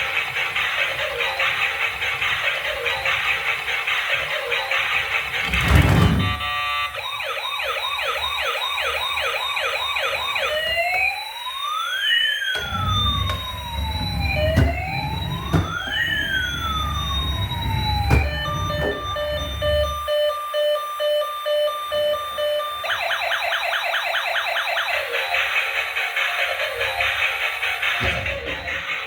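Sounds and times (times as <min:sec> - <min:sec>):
toy electronic siren: 0:00.8 - 0:28.7.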